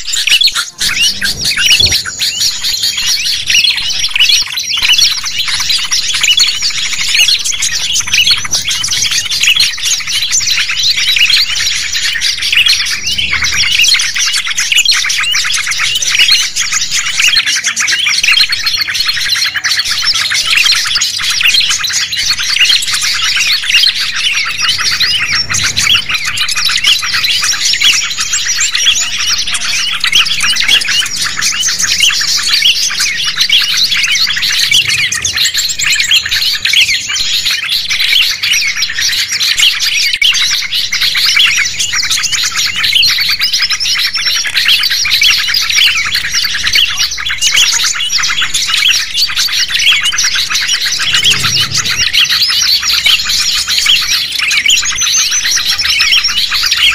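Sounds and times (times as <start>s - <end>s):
many songbirds chirping and trilling: 0.0s - 56.9s.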